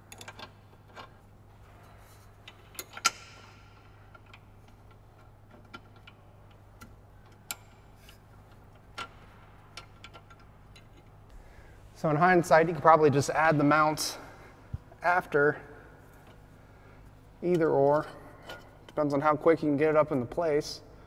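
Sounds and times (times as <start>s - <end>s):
bolts and brackets clicking: 0.0s - 11.4s, 13.2s - 20.7s
low steady hum: 0.0s - 21.0s.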